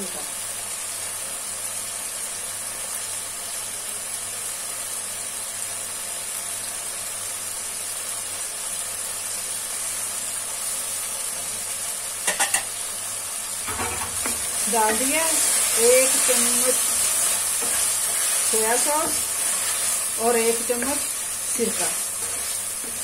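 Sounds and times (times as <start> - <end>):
chicken sizzling in a frying pan: 0.0 - 23.0.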